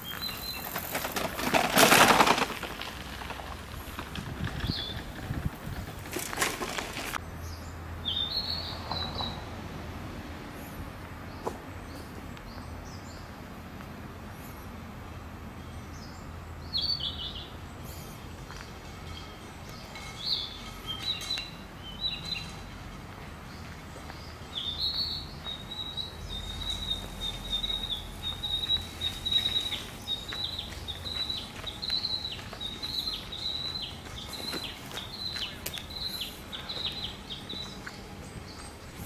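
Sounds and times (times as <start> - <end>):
songbird singing: 0.0 - 9.6, 11.0 - 39.0.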